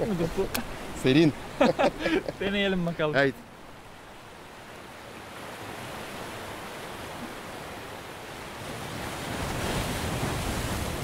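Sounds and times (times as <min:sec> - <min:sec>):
waves breaking over rocks: 0:00.0 - 0:11.0.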